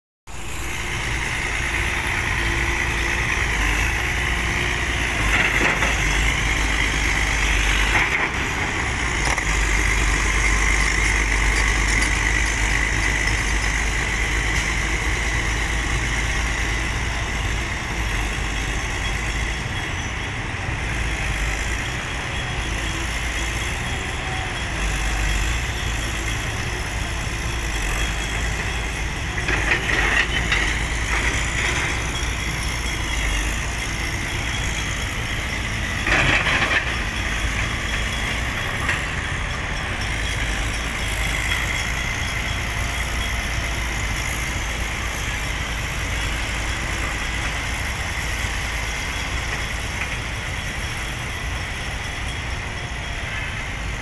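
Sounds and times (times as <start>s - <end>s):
excavator diesel engine running: 0.3s - 54.0s.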